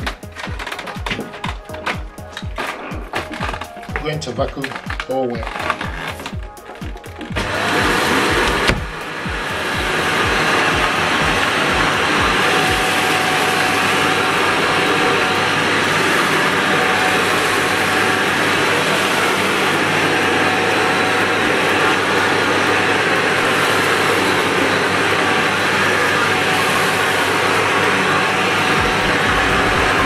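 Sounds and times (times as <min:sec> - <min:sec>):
vacuum cleaner running on carpet: 0:00.0 - 0:30.0.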